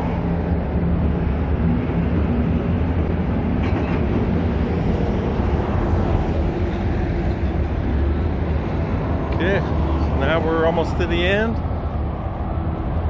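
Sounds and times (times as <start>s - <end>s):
road traffic roar: 0.0s - 13.0s.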